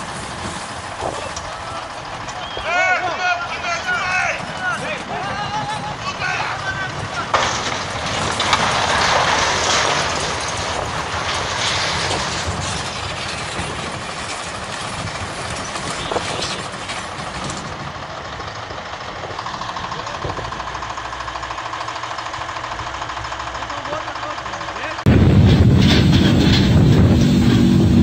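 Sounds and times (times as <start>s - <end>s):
heavy truck and traffic rumble: 0.0s - 28.0s.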